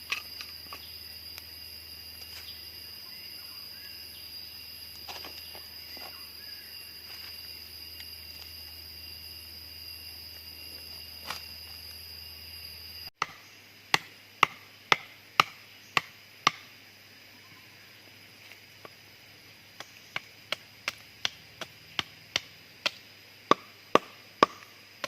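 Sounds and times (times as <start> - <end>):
jungle insects droning: 0.0 - 25.0.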